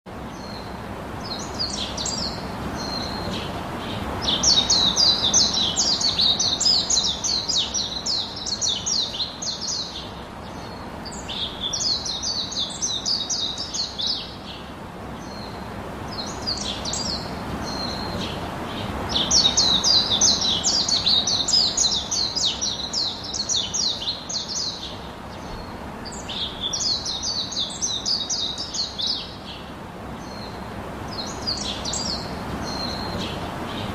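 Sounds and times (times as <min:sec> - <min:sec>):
small birds chirping and singing: 0:00.1 - 0:33.9
steady background hiss: 0:00.1 - 0:33.9.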